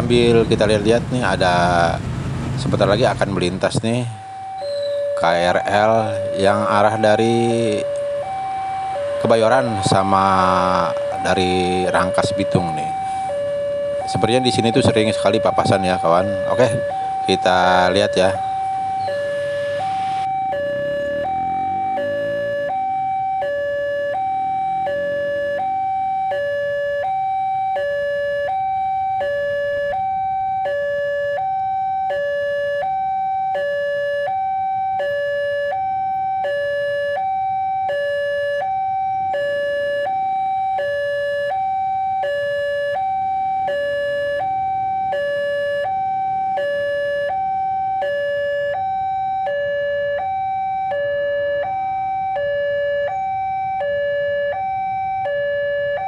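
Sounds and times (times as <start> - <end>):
level crossing alarm two-tone: 4.1 - 56.0.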